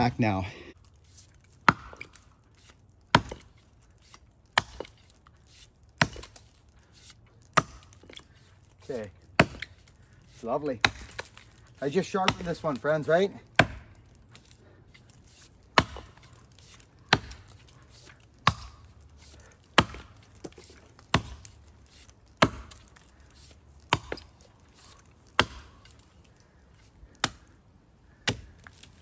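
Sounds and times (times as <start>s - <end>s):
axe chopping tree trunk: 1.2s - 8.3s, 8.9s - 26.0s, 27.0s - 29.0s.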